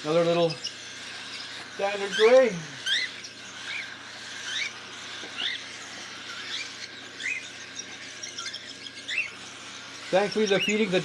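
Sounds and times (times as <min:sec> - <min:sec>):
baby cockatiels chirping: 0:00.0 - 0:11.0.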